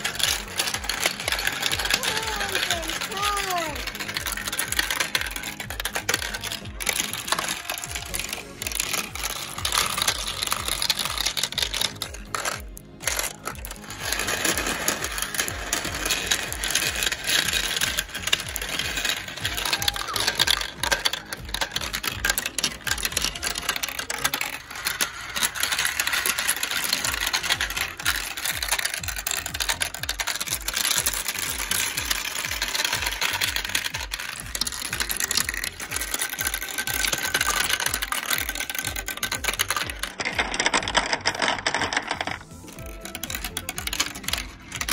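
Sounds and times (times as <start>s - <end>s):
marbles rattling down plastic run: 0.0s - 44.9s.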